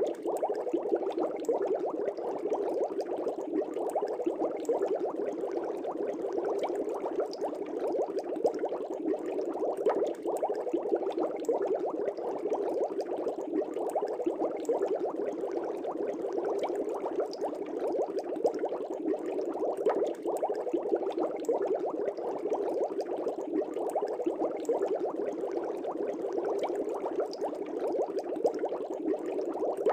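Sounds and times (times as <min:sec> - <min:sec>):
aquarium air bubbles: 0:00.0 - 0:29.9.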